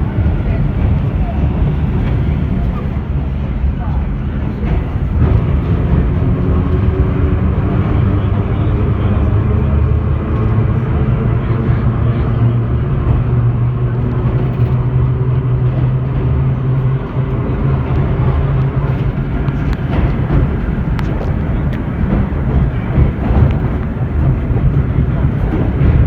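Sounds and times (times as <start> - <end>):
subway car hum: 0.0 - 26.0
wheels rumbling on rails: 0.0 - 26.0.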